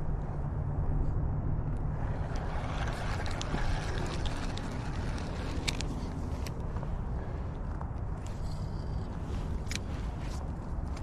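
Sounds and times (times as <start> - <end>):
low rumble with hiss: 0.0 - 11.0.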